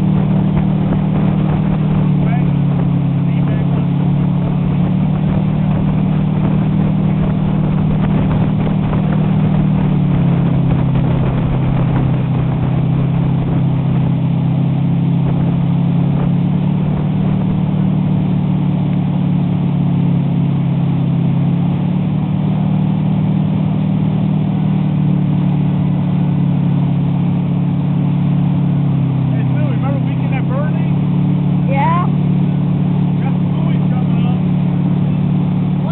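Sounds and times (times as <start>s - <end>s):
motorboat engine running: 0.0s - 35.9s
rushing water and wind: 0.0s - 35.9s.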